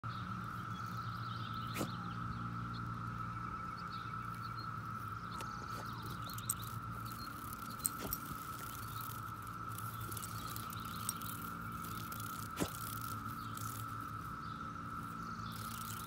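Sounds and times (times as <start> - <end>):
bird chirps: 0.1 - 16.0
cicada chorus drone: 0.1 - 16.0.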